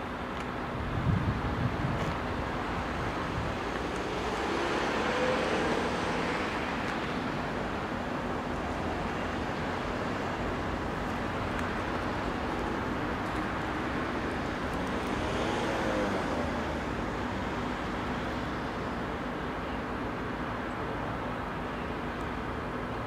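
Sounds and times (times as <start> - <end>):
distant traffic rumble: 0.0 - 23.0.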